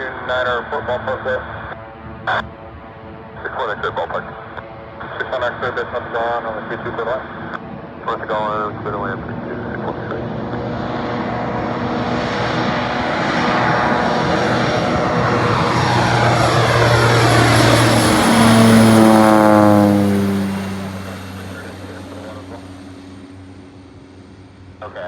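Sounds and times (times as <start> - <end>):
propeller plane passing: 0.0 - 25.0.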